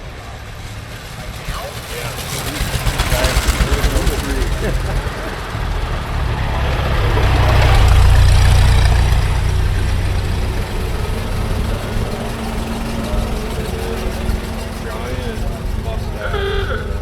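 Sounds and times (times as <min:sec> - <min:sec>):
old car engine driving past: 0:00.0 - 0:17.0.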